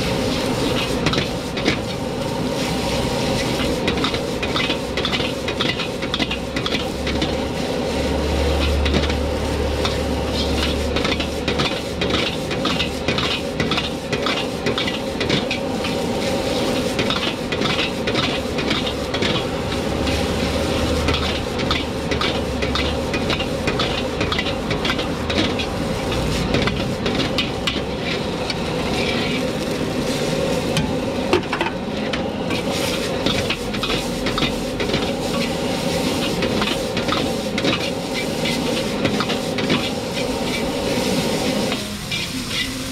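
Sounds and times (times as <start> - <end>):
rice sizzling in a wok: 0.0 - 42.9
metal ladle scraping a wok: 0.1 - 30.8, 31.4 - 42.9.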